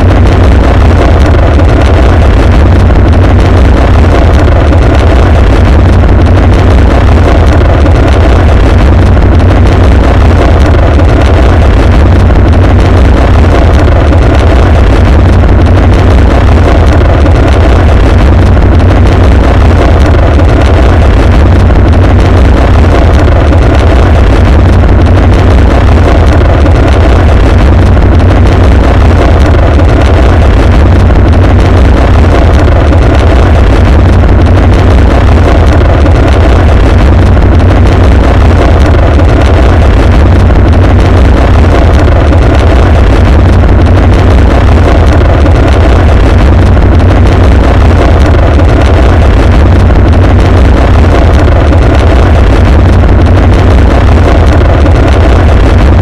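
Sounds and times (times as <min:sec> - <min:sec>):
distorted rocket explosion rumble: 0:00.0 - 0:56.0.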